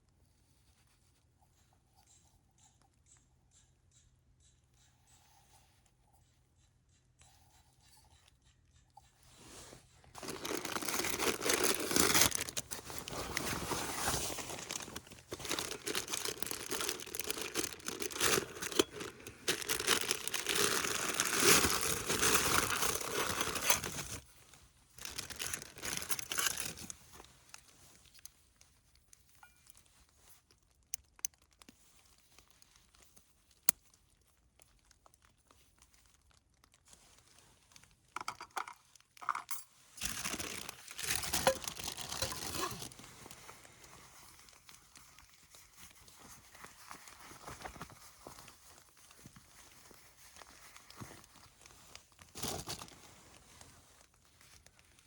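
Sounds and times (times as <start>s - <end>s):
crinkly material rustling: 9.2s - 55.0s.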